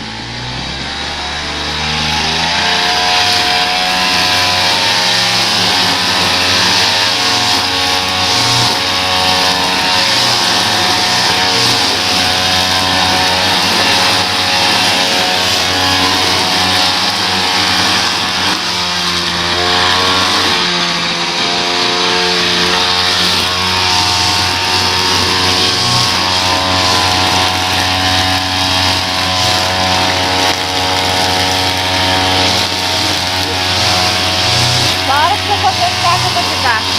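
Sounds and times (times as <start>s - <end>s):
small gasoline engine running: 0.0s - 36.9s.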